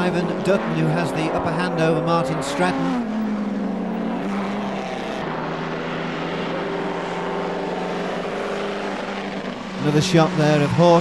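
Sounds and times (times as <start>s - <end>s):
racing car engine high revs: 0.0s - 11.0s.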